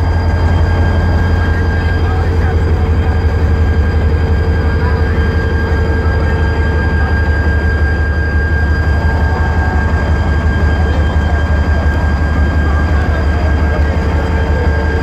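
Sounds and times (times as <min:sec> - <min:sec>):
constant high whine: 0:00.0 - 0:15.0
locomotive engine drone: 0:00.0 - 0:15.0.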